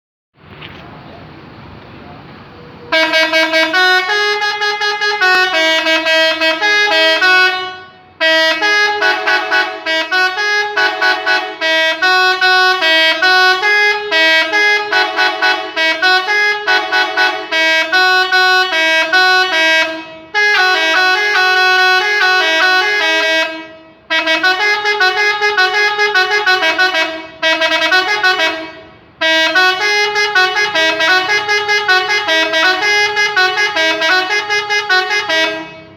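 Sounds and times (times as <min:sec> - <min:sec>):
multi-tone bus horn melody: 0:02.9 - 0:35.9.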